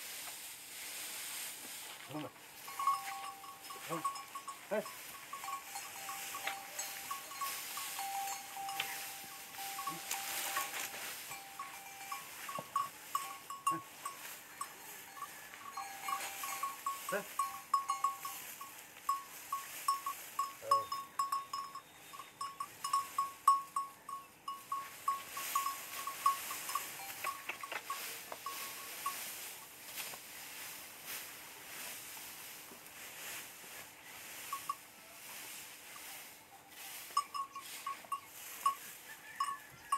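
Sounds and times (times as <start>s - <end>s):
small bells clinking: 2.4s - 29.8s, 34.2s - 35.2s, 36.0s - 39.9s.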